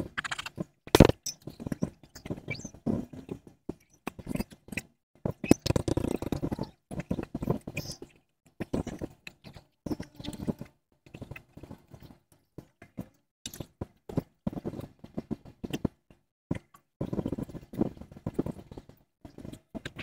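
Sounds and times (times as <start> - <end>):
quick taps clicks and scrapes: 0.0 - 20.0.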